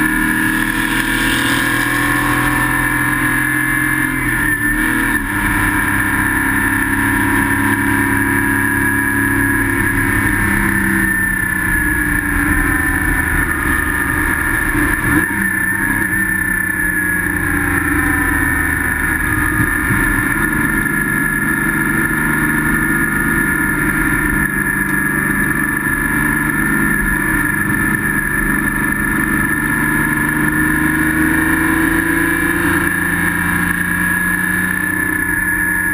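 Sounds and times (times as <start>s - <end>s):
race car engine revving: 0.0s - 35.9s.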